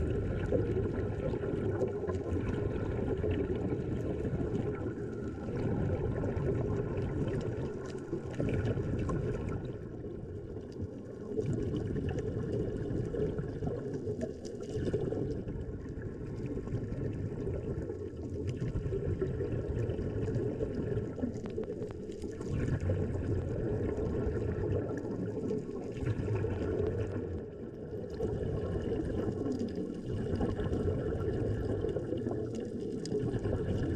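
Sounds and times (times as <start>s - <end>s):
water sloshing and gurgling: 0.0s - 33.9s.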